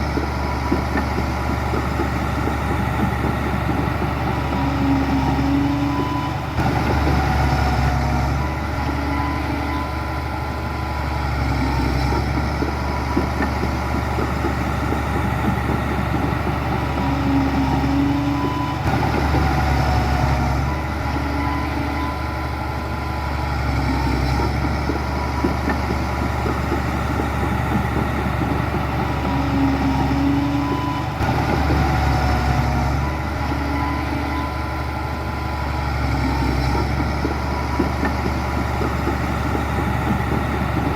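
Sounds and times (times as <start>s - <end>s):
heavy diesel engine droning: 0.0s - 40.9s.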